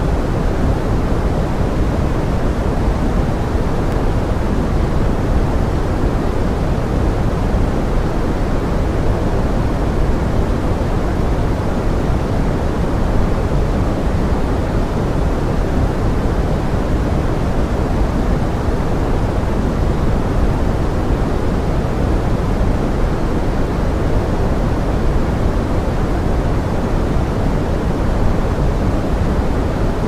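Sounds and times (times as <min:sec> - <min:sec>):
pink noise with rain: 0:00.0 - 0:30.0.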